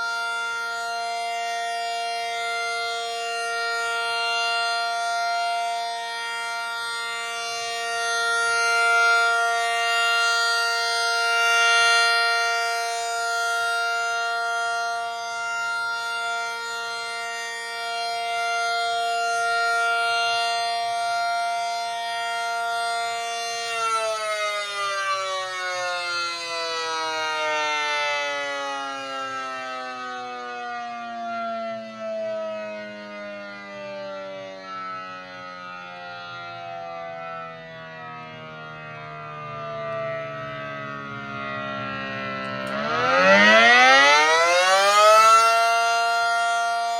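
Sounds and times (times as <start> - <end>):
rotating siren: 0.0 - 46.9.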